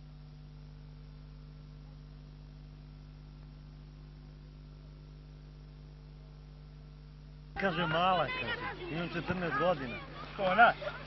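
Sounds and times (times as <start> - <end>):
electrical hum: 0.0 - 11.0
faint tape hiss: 0.0 - 11.0.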